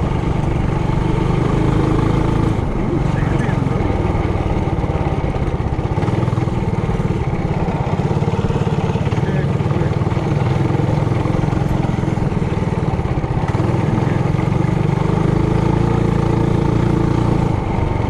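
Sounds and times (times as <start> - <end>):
mini bike engine droning: 0.0 - 18.0.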